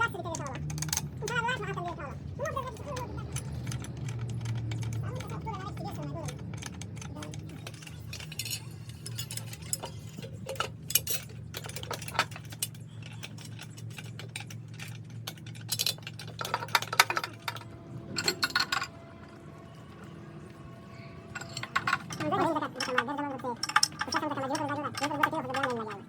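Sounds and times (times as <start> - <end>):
metal tools clinking on metal: 0.0 - 26.0
steady low hum: 0.0 - 26.0.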